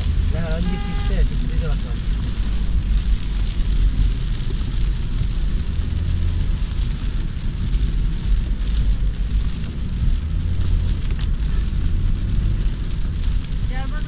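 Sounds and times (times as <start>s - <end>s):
rain and tyre spray hiss: 0.0s - 14.0s
road and engine rumble: 0.0s - 14.0s.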